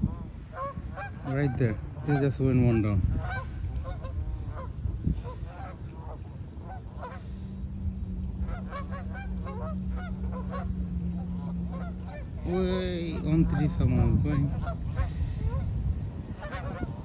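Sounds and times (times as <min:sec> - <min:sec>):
geese honking: 0:00.0 - 0:17.0
steady low hum: 0:00.0 - 0:17.0.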